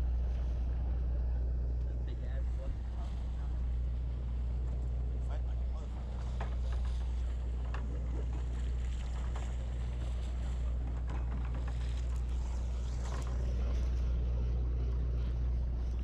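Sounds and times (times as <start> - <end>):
boat engine droning: 0.0 - 16.0
water noise: 0.0 - 16.0.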